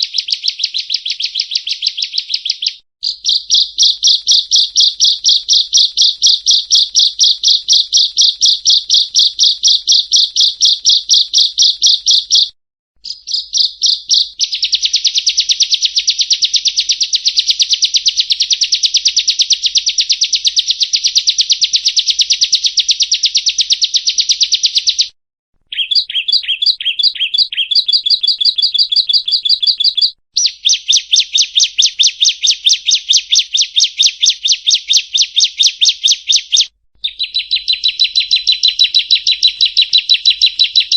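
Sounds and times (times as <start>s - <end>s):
bird singing high chirps: 0.0s - 25.1s, 25.7s - 40.9s.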